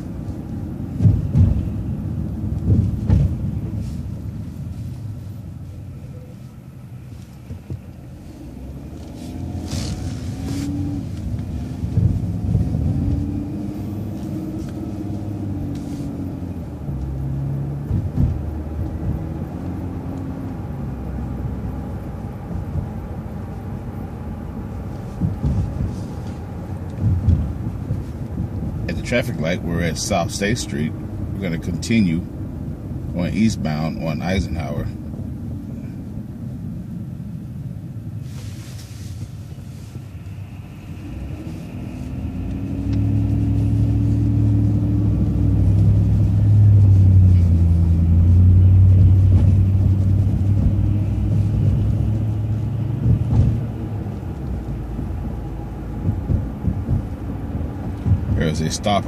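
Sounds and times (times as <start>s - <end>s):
bus engine: 0.0s - 59.0s
road rumble: 0.0s - 59.0s.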